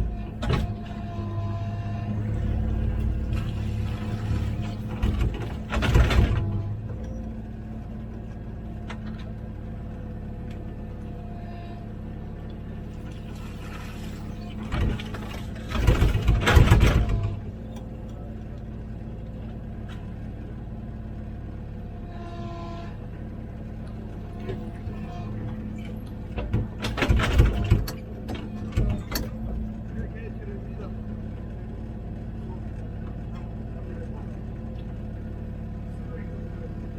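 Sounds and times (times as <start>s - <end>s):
diesel excavator engine running: 0.0s - 36.9s.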